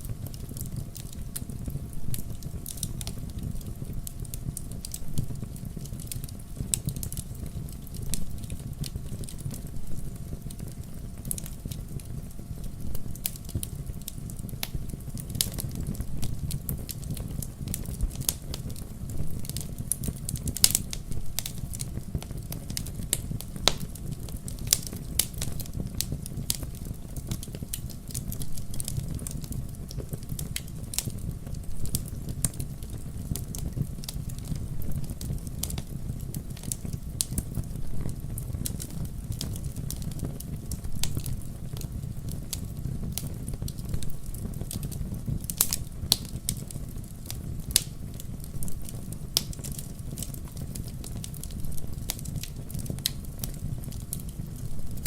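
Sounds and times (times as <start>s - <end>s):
flames rushing: 0.0s - 55.0s
logs crackling and popping: 0.0s - 55.0s.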